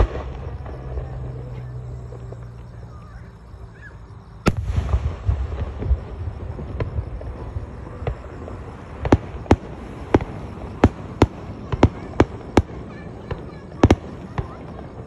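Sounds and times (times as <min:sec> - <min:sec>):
fireworks bangs: 0:00.0 - 0:03.4, 0:04.4 - 0:15.0.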